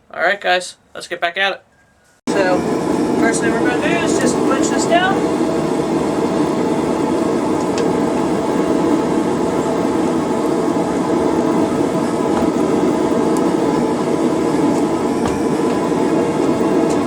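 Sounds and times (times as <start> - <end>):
gas forge and blower roaring: 2.3 - 17.0.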